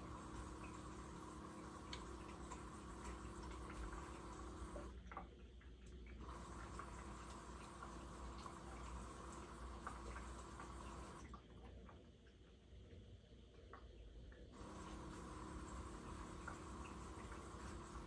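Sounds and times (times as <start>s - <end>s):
washing machine motor whine: 0.0s - 5.3s, 6.0s - 12.0s, 14.4s - 18.0s
water drips and splashes: 0.0s - 18.0s.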